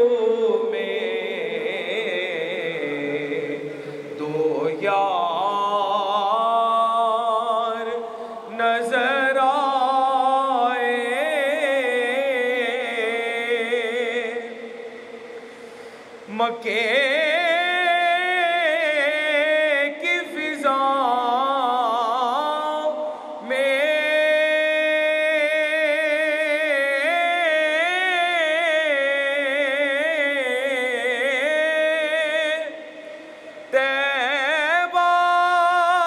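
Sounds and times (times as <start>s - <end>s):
man singing unaccompanied: 0.0s - 15.2s, 16.2s - 36.0s.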